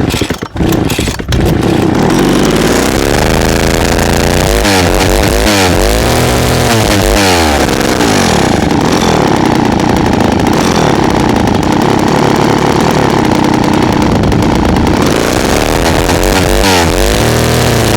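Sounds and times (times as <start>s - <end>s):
chainsaw engine revving: 0.0s - 17.9s.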